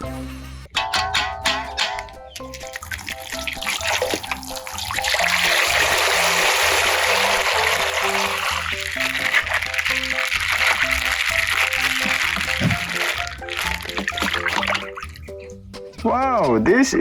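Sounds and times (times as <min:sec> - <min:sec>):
light background music: 0:00.0 - 0:17.0
water running and splashing: 0:01.4 - 0:16.0.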